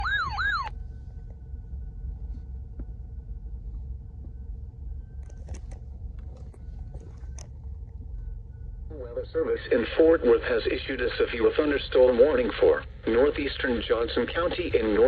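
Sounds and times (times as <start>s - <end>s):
faint electronic hum: 0.0s - 15.0s
low steady rumble: 0.0s - 15.0s.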